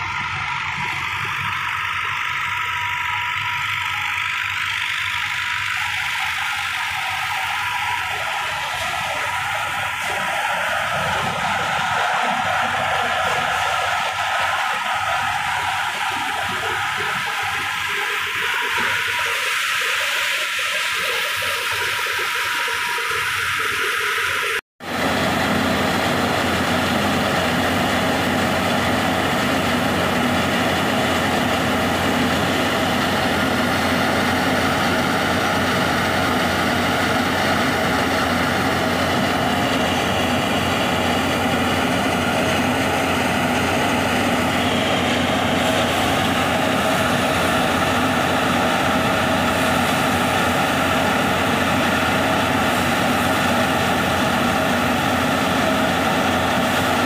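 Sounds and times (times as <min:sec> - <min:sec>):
threshing machine droning: 0:00.0 - 0:57.0.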